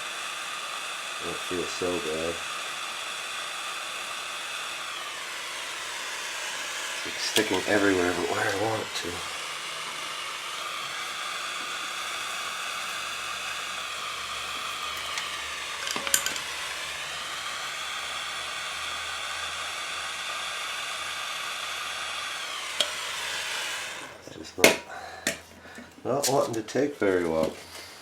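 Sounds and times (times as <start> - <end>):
gas torch flame hissing: 0.0 - 25.4.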